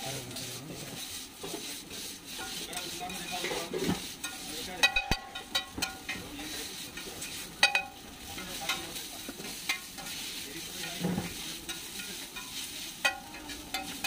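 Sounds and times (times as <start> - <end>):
food sizzling: 0.0 - 14.0
metal spatula clacking on griddle: 2.4 - 14.0.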